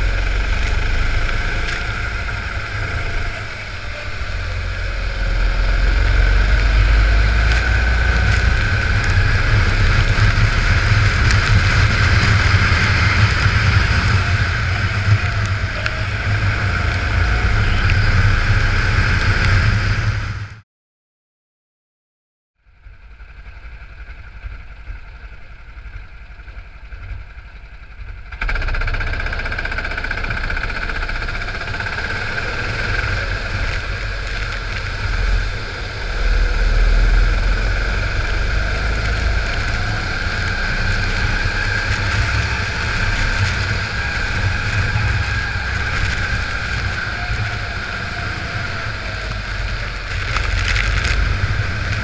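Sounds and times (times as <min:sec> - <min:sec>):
go-kart engines running: 0:00.0 - 0:20.5, 0:23.0 - 0:52.0.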